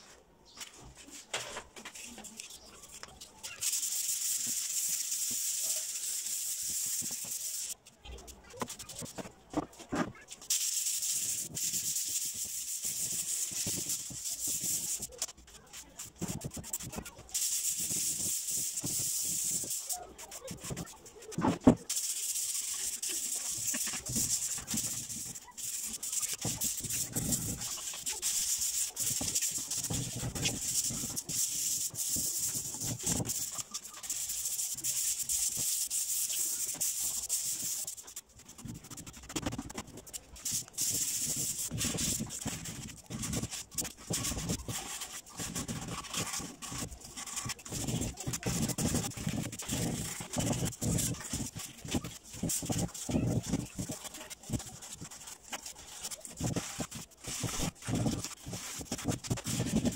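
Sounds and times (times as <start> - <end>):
sandpaper rubbing on wood: 1.9 - 59.9.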